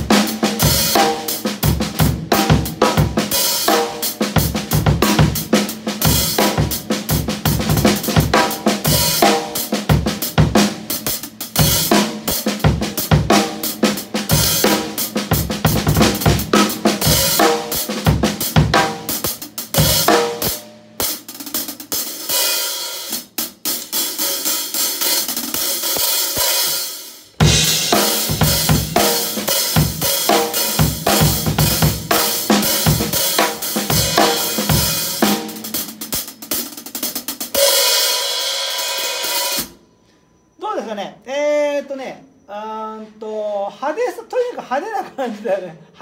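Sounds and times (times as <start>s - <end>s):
drum kit groove: 0.0s - 39.8s.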